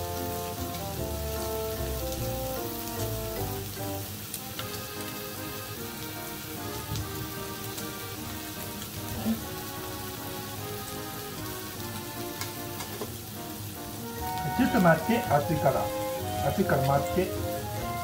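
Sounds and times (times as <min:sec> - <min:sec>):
background music: 0:00.0 - 0:18.0
meat sizzling on grill: 0:00.0 - 0:18.0.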